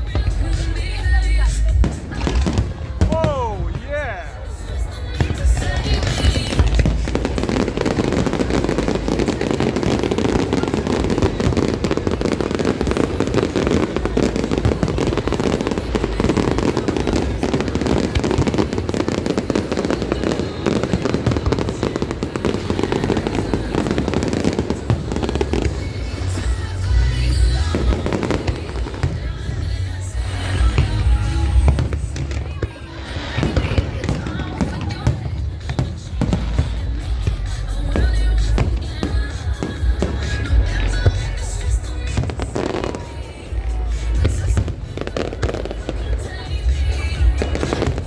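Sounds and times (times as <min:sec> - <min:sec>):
fireworks crackling and booming: 0:00.0 - 0:48.0
music: 0:00.0 - 0:48.0.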